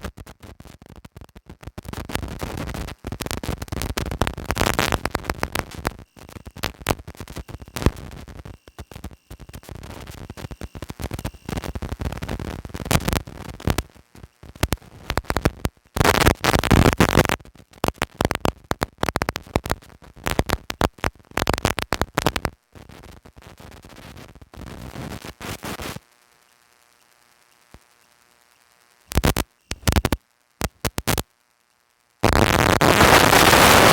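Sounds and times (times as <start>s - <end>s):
rushing noise on microphone: 0.0s - 26.0s, 29.1s - 31.2s, 32.2s - 33.9s.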